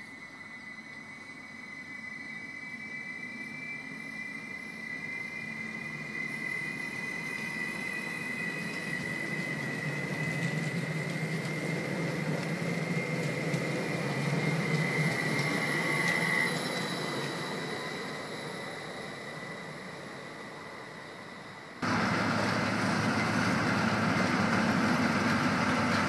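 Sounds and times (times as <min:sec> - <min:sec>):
high steady whine: 0:00.0 - 0:26.0
train rumbling past: 0:00.0 - 0:26.0.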